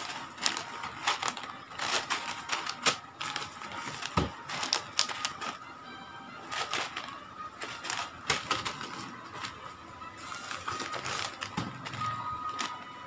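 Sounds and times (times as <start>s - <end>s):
plastic bags crinkling: 0.0s - 5.7s, 6.4s - 13.0s.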